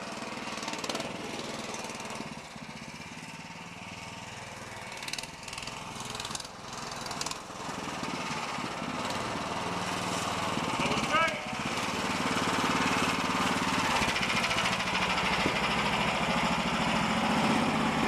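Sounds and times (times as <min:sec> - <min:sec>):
small engine revving: 0:00.0 - 0:18.0.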